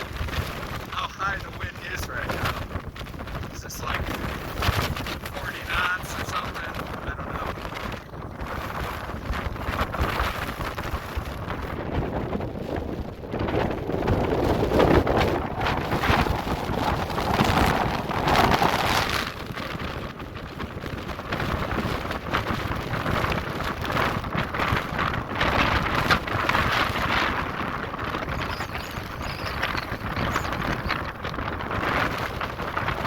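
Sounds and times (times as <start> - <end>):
gusting wind buffeting microphone: 0.0 - 33.0.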